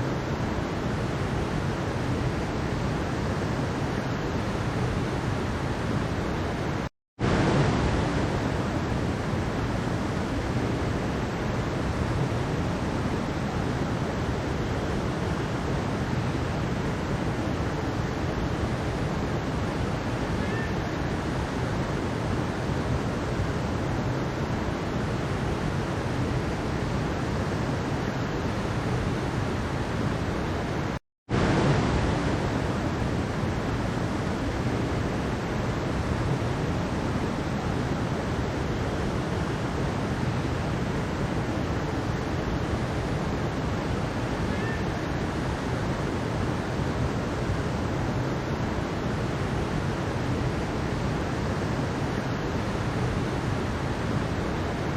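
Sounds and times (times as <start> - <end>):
stream water rushing over rocks: 0.0 - 54.9.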